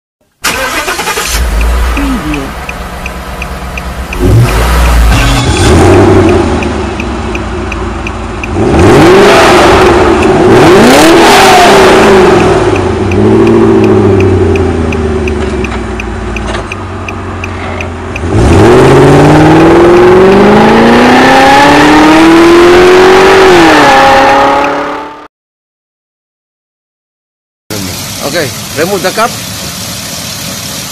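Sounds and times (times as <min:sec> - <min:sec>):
car engine revving: 0:00.4 - 0:25.3.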